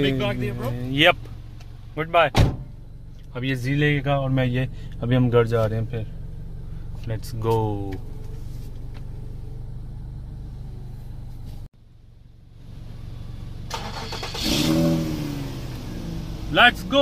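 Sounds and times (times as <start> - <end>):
car engine starting and revving: 0.0 - 11.7, 12.6 - 17.0
low engine hum inside car: 0.0 - 17.0.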